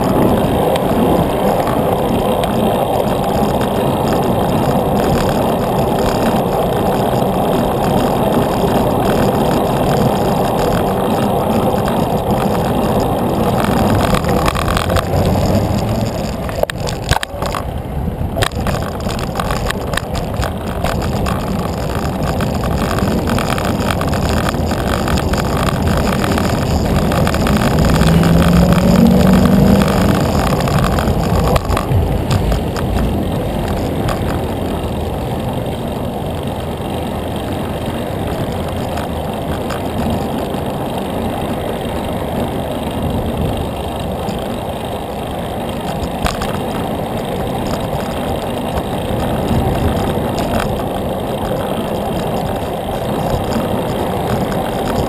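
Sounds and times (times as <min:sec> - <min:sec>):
motor vehicle engine: 0:00.0 - 0:55.0
wind and road noise: 0:00.0 - 0:55.0.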